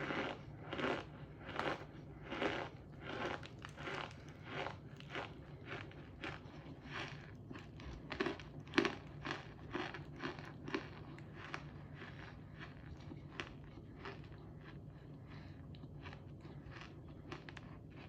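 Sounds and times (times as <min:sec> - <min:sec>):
crunchy chewing and biting: 0:00.0 - 0:18.0.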